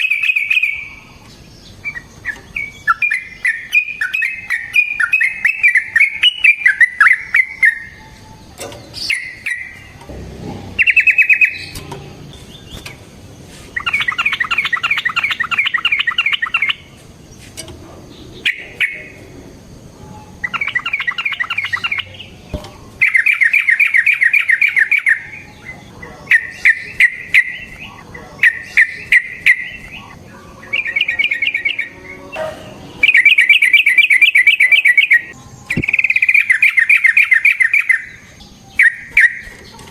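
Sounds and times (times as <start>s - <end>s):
bird chattering trills: 0.0s - 10.0s, 10.7s - 13.1s, 13.7s - 17.0s, 18.1s - 19.3s, 20.1s - 39.8s.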